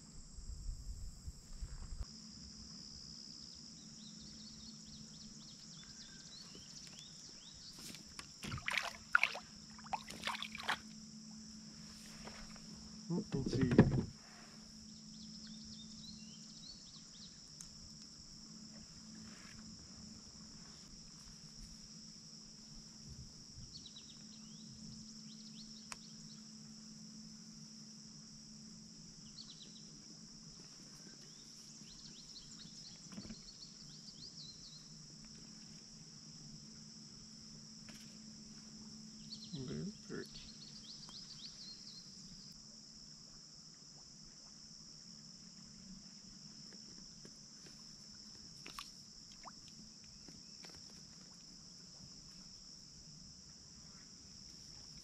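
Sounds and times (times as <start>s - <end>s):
insect chirps: 0.0s - 55.0s
insects droning: 0.0s - 55.0s.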